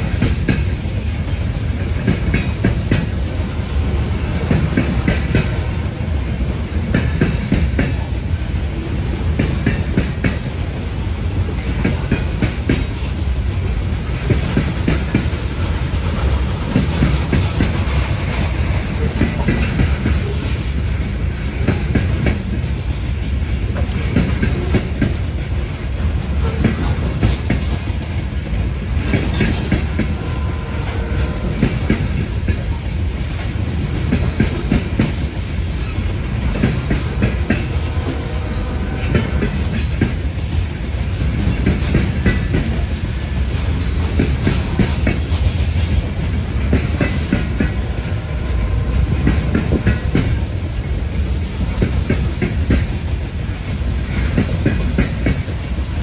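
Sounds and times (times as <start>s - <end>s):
train cars rumbling past: 0.0s - 56.0s
wheels clacking over rail joints: 0.0s - 56.0s.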